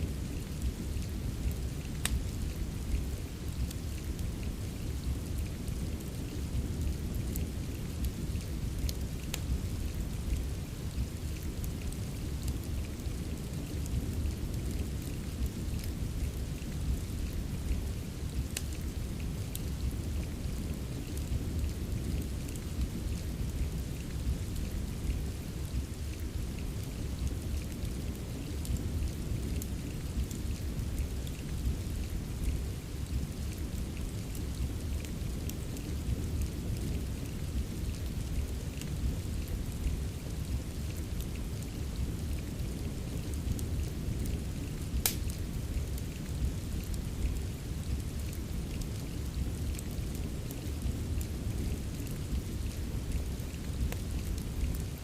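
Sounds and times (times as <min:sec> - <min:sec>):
steady rain rumble: 0:00.0 - 0:55.0
wood fire crackling: 0:00.0 - 0:55.0.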